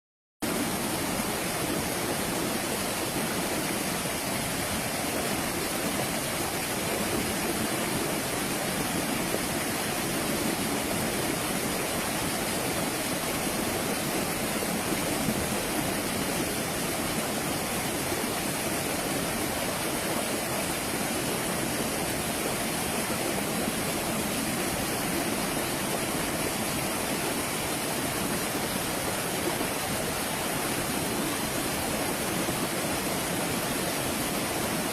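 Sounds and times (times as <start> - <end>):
stream water rushing and splashing: 0.4 - 34.9.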